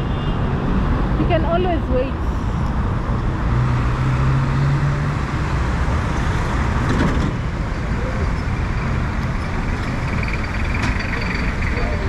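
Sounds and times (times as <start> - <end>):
vehicles passing: 0.0 - 12.0.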